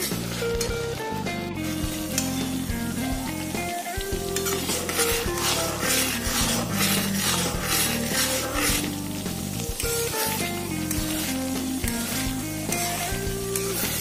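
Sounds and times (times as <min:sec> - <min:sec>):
background music: 0:00.0 - 0:14.0
butter sizzling in a pan: 0:00.0 - 0:14.0
metal spatula scraping pan: 0:01.6 - 0:14.0.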